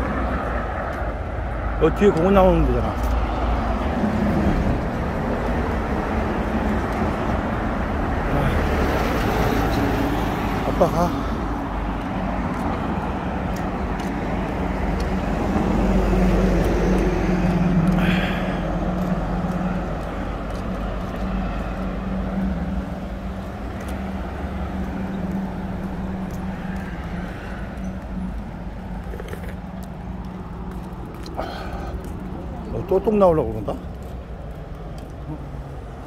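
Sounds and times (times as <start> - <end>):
vehicle engine rumbling: 0.0 - 36.0.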